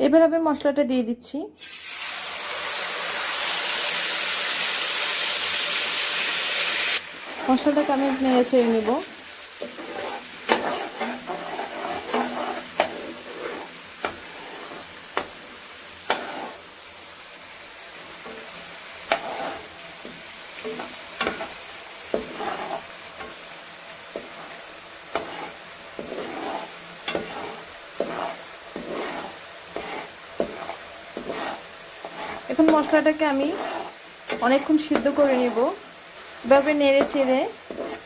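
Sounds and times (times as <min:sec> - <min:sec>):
paste sizzling in hot oil: 0:01.6 - 0:38.0
metal spatula scraping a pan: 0:07.0 - 0:38.0.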